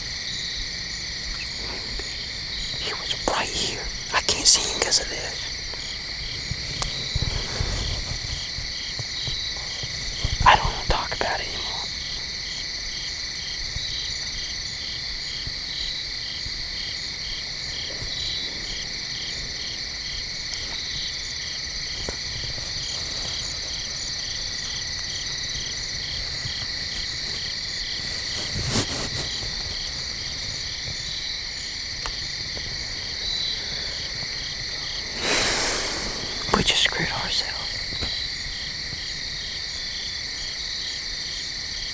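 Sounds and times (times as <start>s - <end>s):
insect call pulsing: 0.0s - 14.9s, 18.1s - 41.9s
crickets and insects trilling: 0.0s - 41.9s.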